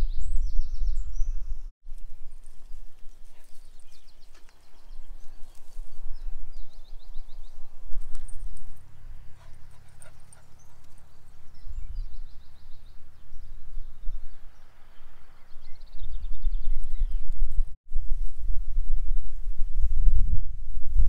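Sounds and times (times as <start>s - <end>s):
songbirds singing: 0.0s - 17.7s
wind buffeting microphone: 0.0s - 21.0s.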